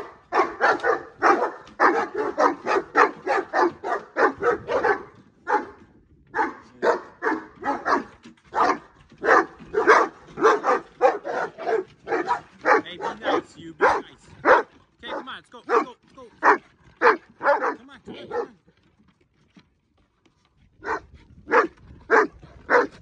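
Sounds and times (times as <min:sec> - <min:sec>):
dogs barking deeply: 0:00.0 - 0:18.6, 0:20.8 - 0:23.0.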